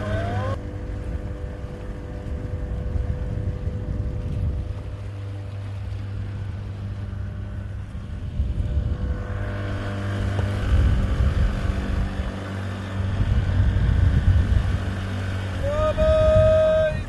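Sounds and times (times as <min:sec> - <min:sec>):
engine running with low hum: 0:00.0 - 0:17.0
wind rumbling on microphone: 0:00.0 - 0:17.0.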